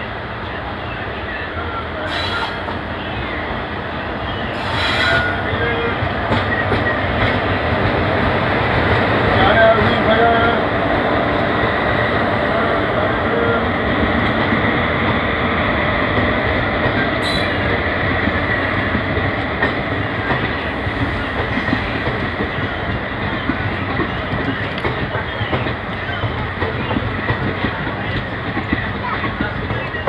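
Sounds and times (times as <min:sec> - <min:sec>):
train wheels rumbling and clattering: 0:00.0 - 0:30.0.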